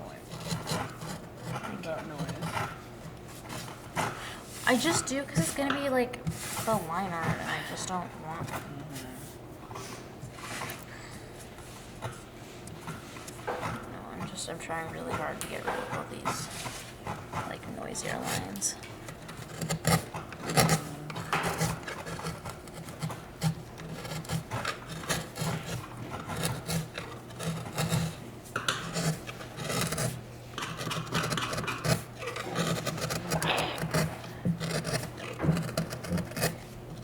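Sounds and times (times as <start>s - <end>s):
gouges scraping wood: 0.0s - 9.2s, 10.2s - 37.0s
steady low hum: 0.0s - 37.0s.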